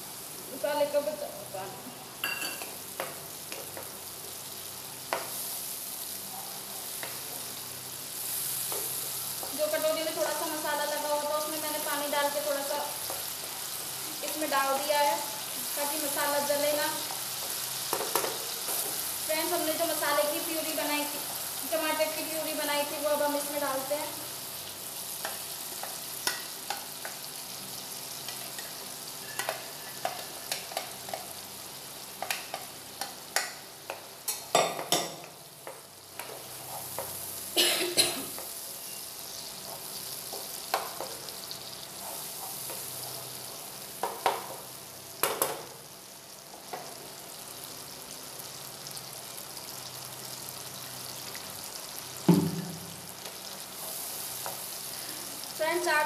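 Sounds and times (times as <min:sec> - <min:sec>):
masala sizzling in oil: 0:00.0 - 0:56.0.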